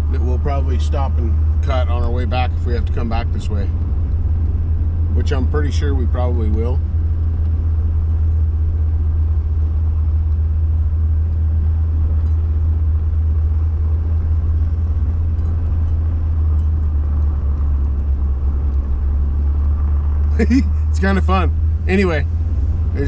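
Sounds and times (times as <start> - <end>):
vehicle engine and road drone: 0.0 - 23.0.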